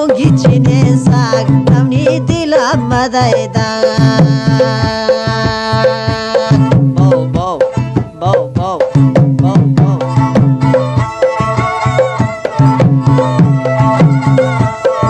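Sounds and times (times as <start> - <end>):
drum percussion: 0.0 - 15.0
melody with bending notes: 0.0 - 15.0.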